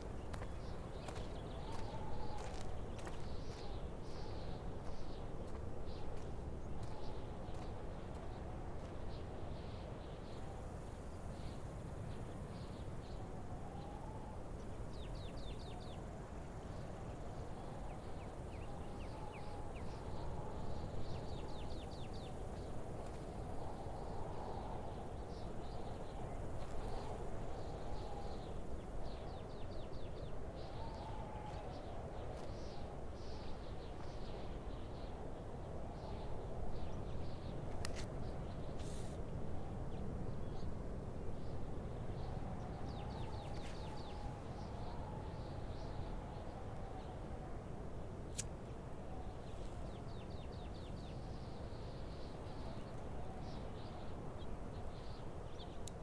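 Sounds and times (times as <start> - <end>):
low background hiss: 0.0 - 56.0.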